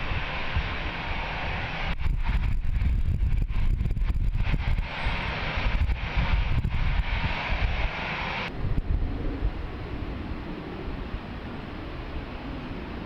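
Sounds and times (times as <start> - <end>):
jet engine roar: 0.0 - 13.0
wind buffeting microphone: 0.0 - 13.0.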